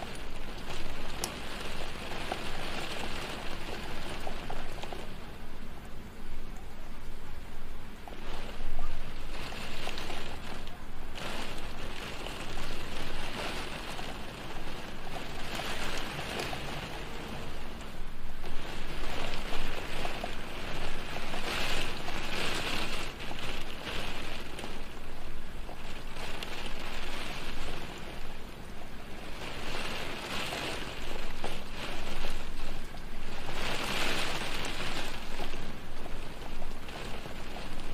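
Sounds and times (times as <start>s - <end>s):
rain falling on a window: 0.0s - 37.9s.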